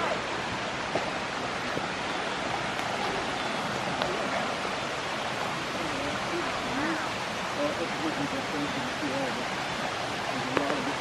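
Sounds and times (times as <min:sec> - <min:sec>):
water rushing down rocky creek: 0:00.0 - 0:11.0.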